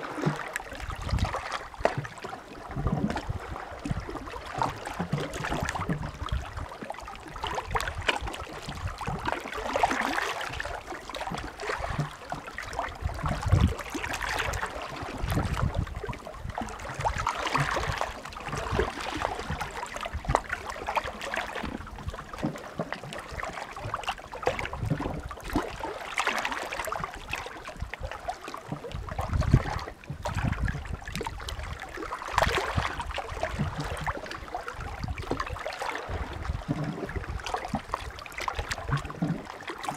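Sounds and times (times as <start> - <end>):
small waves washing onto shore: 0.0 - 39.9.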